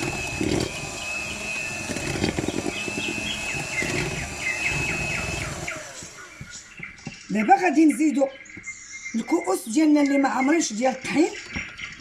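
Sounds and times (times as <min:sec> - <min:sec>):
small bird chirping: 0:01.0 - 0:12.0.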